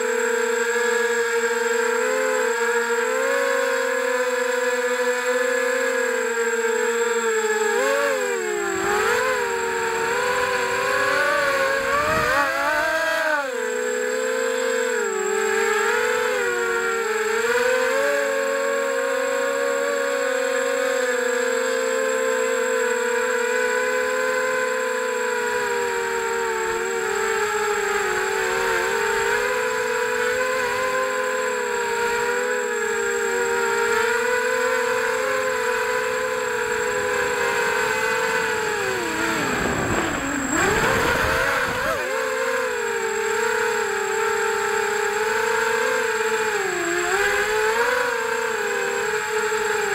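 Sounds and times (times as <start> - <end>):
drone motors whining: 0.0 - 49.9.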